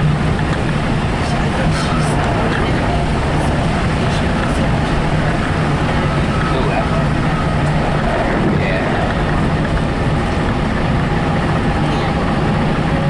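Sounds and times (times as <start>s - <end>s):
train rumble from inside coach: 0.0s - 13.0s.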